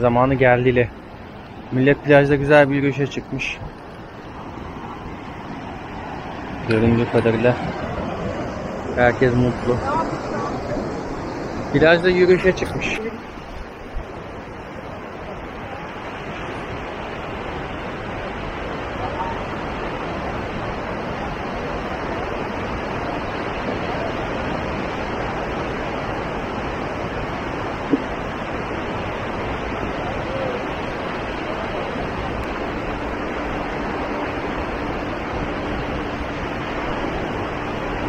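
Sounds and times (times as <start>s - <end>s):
surf washing onto beach: 0.0s - 38.0s.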